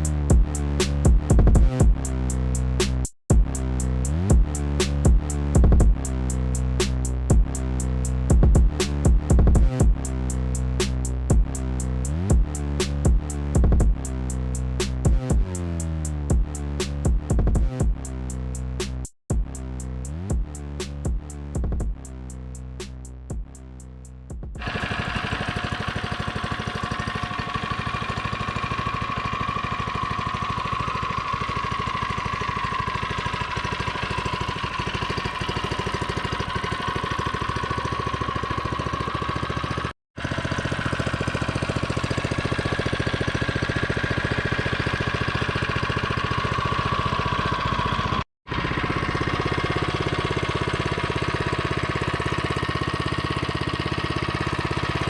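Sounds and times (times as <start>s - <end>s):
small engine running: 3.4s - 18.4s, 24.6s - 55.0s.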